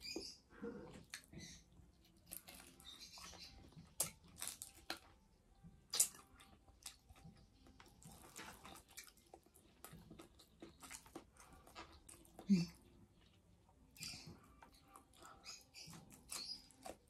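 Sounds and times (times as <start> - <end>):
faint chewing and eating: 0.0 - 17.0.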